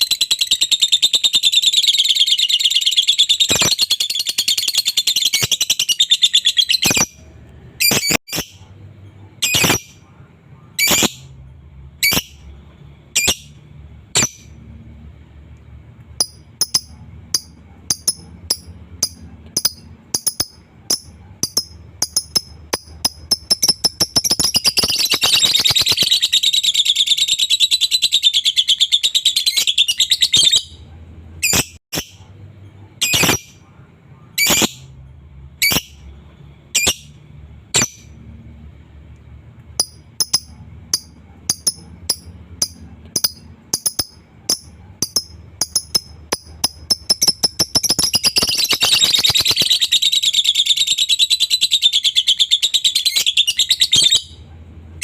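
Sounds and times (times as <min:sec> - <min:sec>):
lovebird chirping and trilling: 0:00.0 - 0:14.6, 0:16.1 - 0:32.3, 0:33.0 - 0:33.7, 0:34.3 - 0:35.0, 0:35.6 - 0:38.2, 0:39.8 - 0:54.4.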